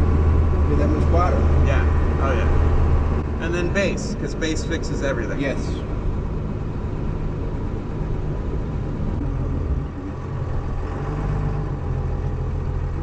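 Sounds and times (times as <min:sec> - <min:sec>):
diesel truck engine drone: 0:00.0 - 0:13.0
road noise: 0:00.0 - 0:13.0.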